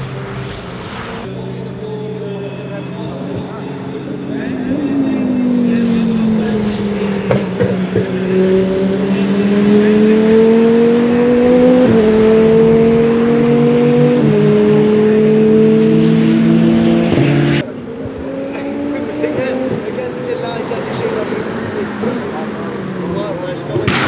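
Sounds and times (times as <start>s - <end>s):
gear upshifts: 0.0s - 24.0s
race car engine at full throttle: 0.0s - 24.0s.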